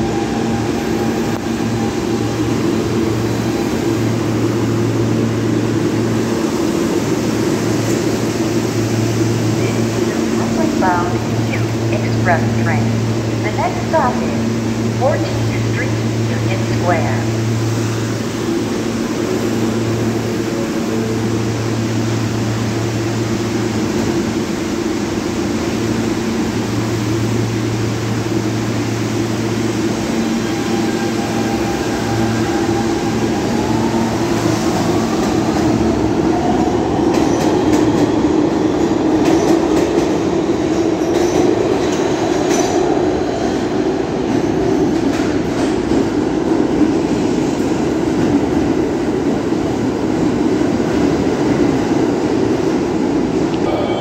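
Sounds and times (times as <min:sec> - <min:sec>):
subway train humming: 0:00.0 - 0:54.0.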